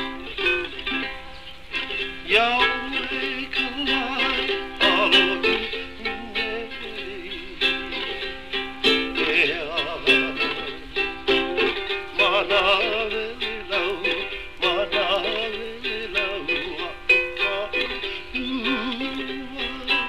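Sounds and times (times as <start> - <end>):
ukulele strumming: 0.0 - 20.0.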